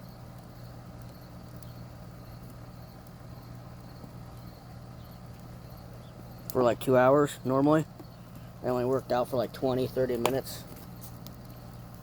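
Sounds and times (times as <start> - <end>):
faint insect chirping: 0.0 - 12.0
steady low hum: 0.0 - 12.0.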